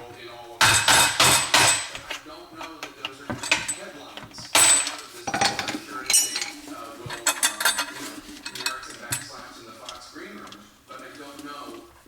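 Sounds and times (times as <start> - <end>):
metallic clinks and knocks: 0.6 - 10.6.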